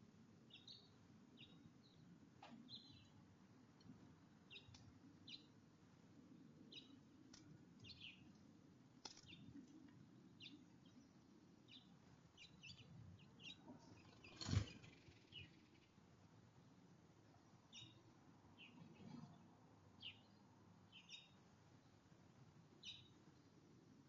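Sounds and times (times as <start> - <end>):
small birds chirping: 0.4 - 3.2, 3.8 - 5.6, 6.3 - 16.2, 17.3 - 22.1, 22.8 - 23.6.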